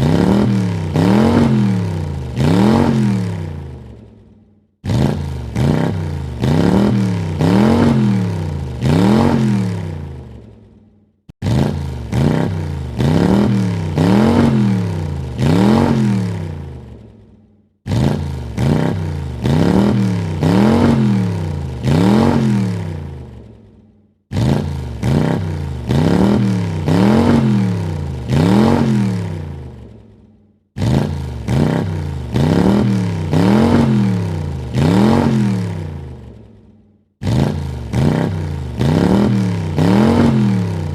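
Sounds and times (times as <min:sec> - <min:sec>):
car engine revving: 0:00.0 - 0:04.2, 0:04.8 - 0:10.6, 0:11.3 - 0:17.2, 0:17.8 - 0:23.5, 0:24.3 - 0:30.0, 0:30.8 - 0:36.5, 0:37.2 - 0:40.9.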